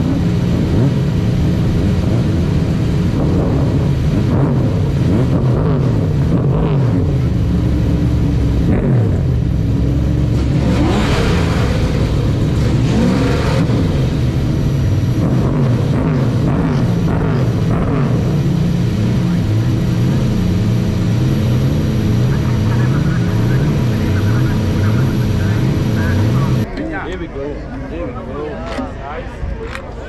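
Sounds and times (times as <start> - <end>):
race car engine at low revs: 0.0 - 26.8.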